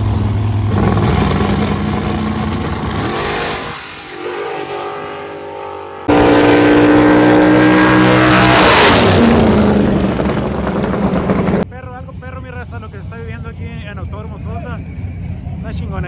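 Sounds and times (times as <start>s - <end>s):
drag racing car engines revving: 0.0s - 16.0s.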